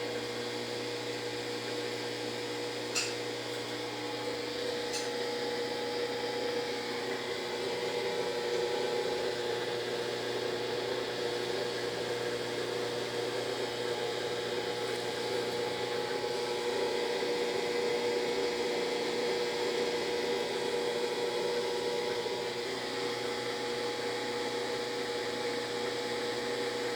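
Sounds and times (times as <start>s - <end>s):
washing machine droning hum: 0.0s - 26.9s.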